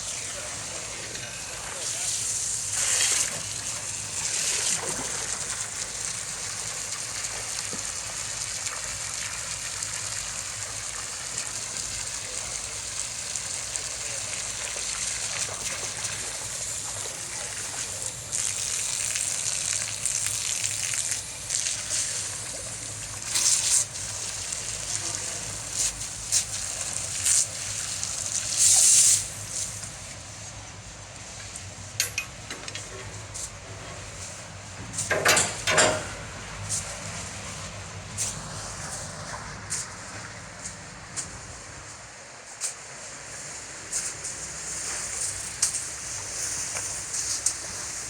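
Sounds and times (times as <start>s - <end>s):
water rushing through a tank: 0.0s - 48.0s.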